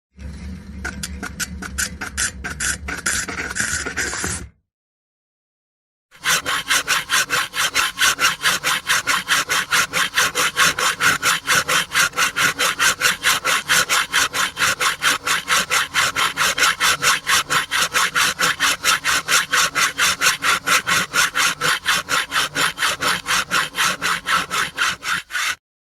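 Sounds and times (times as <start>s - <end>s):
handsaw cutting wood: 1.2s - 4.4s, 6.2s - 25.6s.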